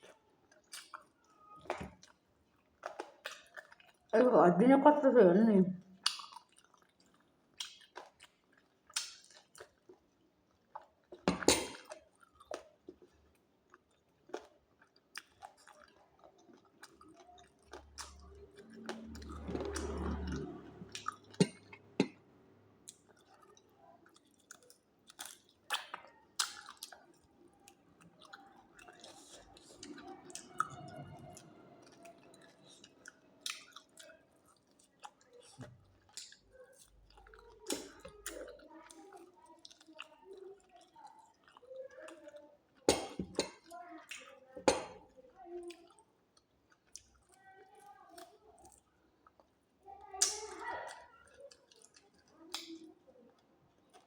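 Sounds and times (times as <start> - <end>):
chewing with wet smacking: 0.0 - 4.2, 5.8 - 54.0.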